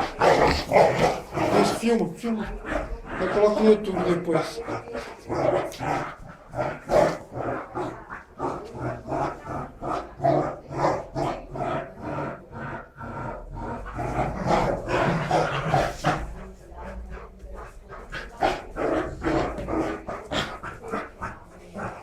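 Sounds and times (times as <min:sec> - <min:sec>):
dogs growling in play: 0:00.0 - 0:22.0.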